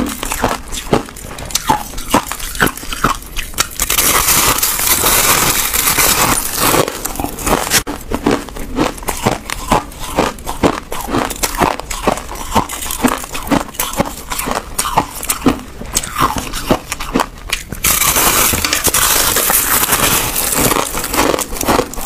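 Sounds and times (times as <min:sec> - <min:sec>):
crushed ice crunching: 0:00.0 - 0:22.0.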